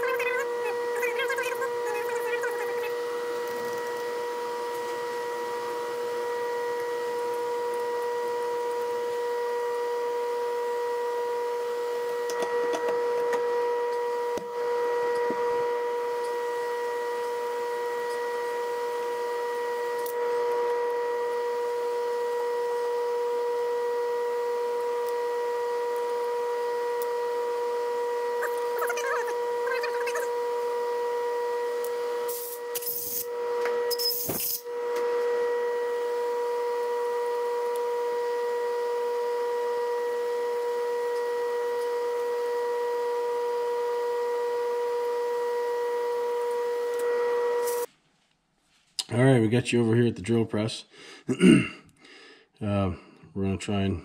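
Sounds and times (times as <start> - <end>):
machine hum: 0.0 - 47.9.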